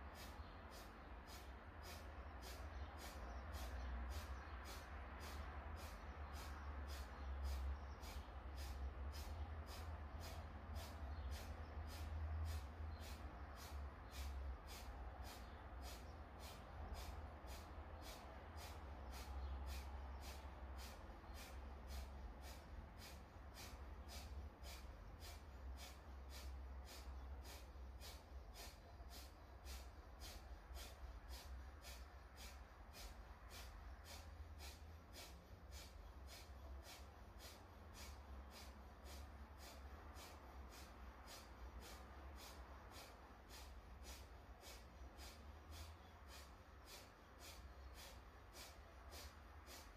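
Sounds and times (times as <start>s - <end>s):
low steady hum: 0.0s - 49.9s
sharp nasal exhalations: 0.0s - 49.9s.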